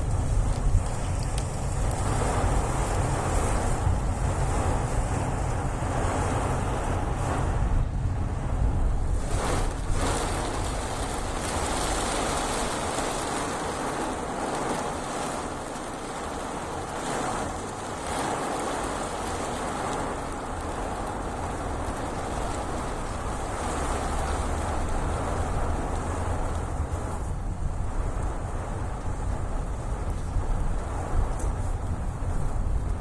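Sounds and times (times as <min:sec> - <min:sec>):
low rumble: 0:00.0 - 0:15.3, 0:18.9 - 0:33.0
heavy rain falling: 0:00.0 - 0:33.0.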